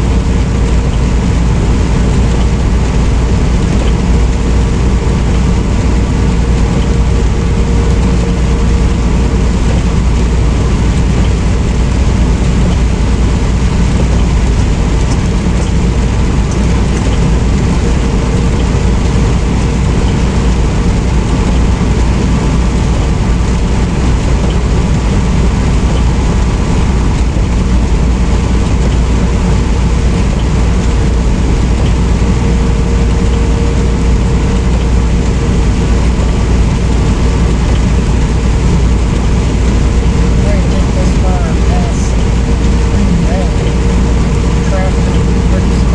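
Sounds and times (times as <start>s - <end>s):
faint steady hum: 0.0s - 45.9s
truck engine and road rumble: 0.0s - 45.9s.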